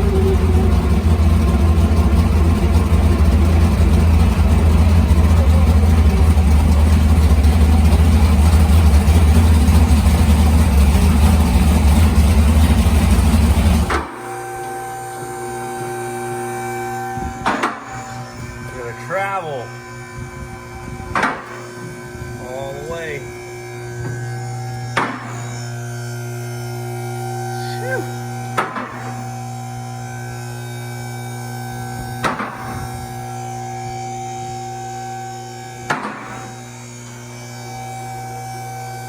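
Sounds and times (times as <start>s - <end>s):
steady tones: 0.0s - 34.9s
truck engine rumbling: 0.0s - 39.0s.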